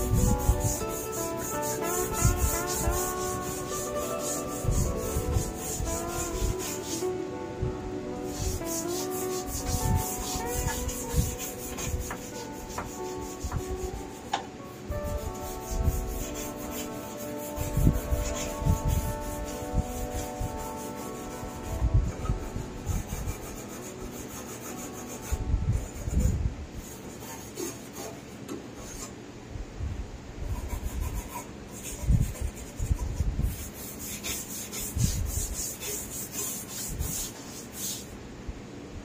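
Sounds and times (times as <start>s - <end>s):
brush scrubbing sheet metal: 0.0s - 7.2s, 8.2s - 29.2s, 30.4s - 38.2s.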